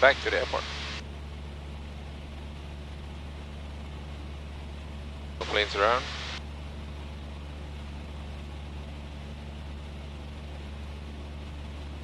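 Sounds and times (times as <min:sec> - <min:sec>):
airplane engine and propeller droning: 0:00.0 - 0:12.0.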